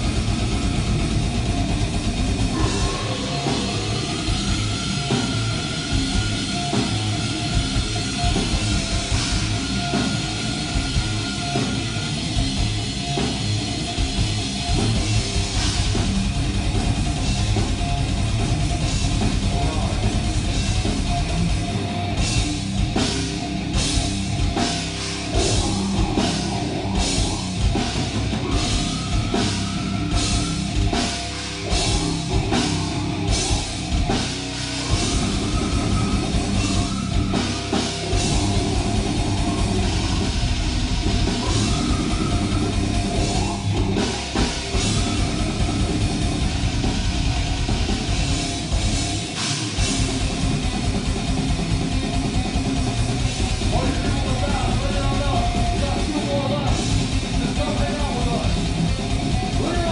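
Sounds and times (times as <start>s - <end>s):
death metal band playing: 0.0s - 59.9s
fast dense drumming: 0.0s - 59.9s.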